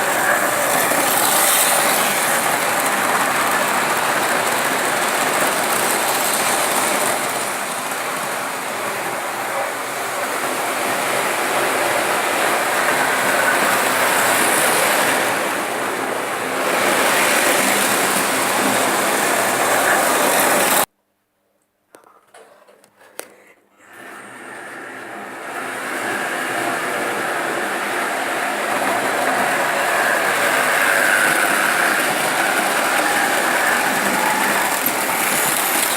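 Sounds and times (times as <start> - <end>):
model train running on track: 0.0 - 20.9, 23.8 - 35.9.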